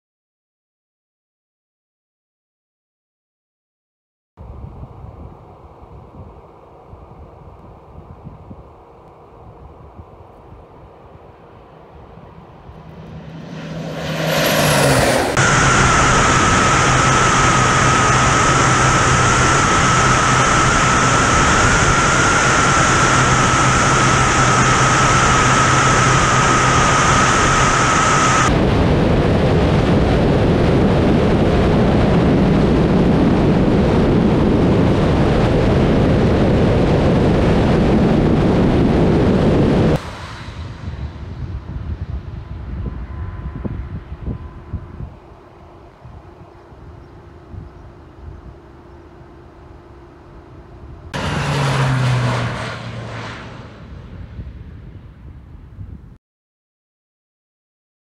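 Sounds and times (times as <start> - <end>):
airplane engine whine: 4.4 - 56.2
rushing wind: 4.4 - 56.2.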